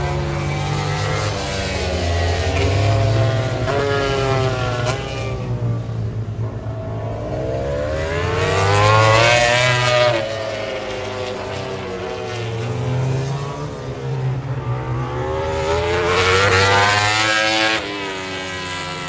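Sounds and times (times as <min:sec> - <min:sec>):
race motorcycles revving past: 0:00.0 - 0:19.0.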